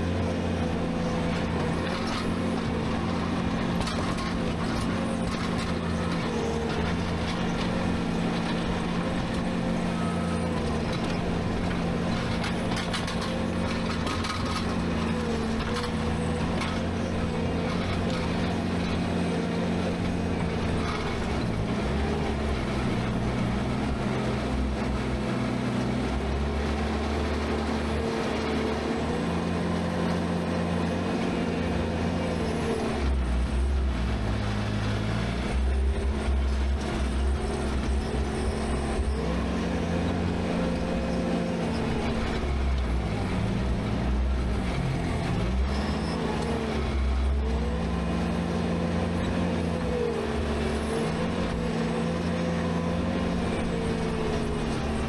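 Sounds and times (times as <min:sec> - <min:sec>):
skid steer engine running: 0:00.0 - 0:55.0.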